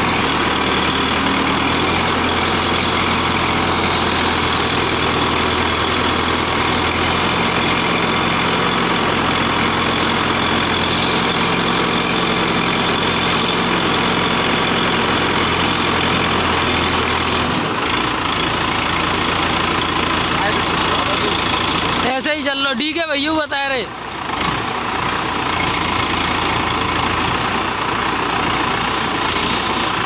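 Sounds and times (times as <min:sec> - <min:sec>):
crane diesel engine running: 0:00.0 - 0:30.0.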